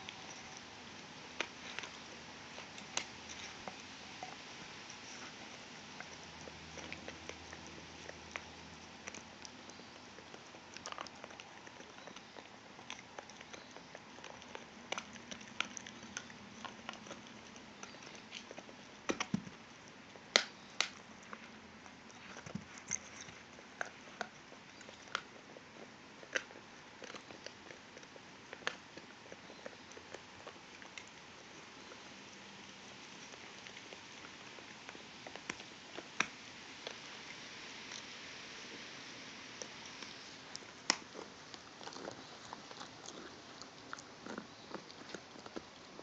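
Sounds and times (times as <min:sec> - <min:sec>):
dogs gnawing on antlers: 0:00.0 - 0:46.0.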